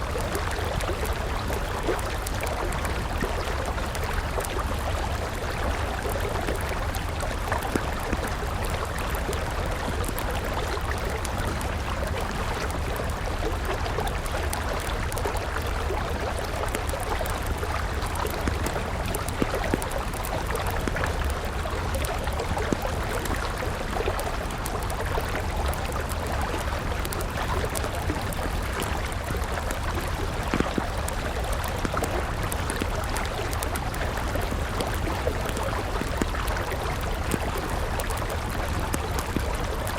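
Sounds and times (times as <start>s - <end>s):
campfire crackling: 0.0s - 39.9s
river water flowing: 0.0s - 39.9s.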